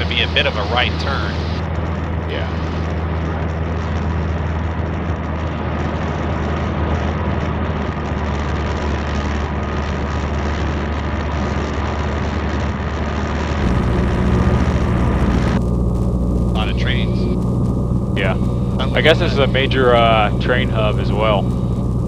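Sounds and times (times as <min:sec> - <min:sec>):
light aircraft engine droning: 0:00.0 - 0:22.0.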